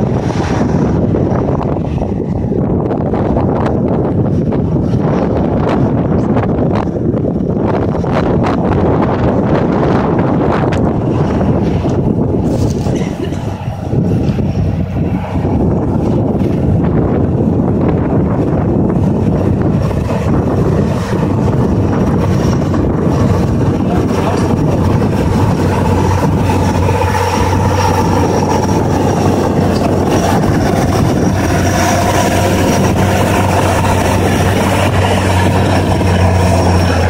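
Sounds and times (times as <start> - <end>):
tractor diesel engine under load: 0.0 - 37.0
wind rumbling on microphone: 0.0 - 37.0.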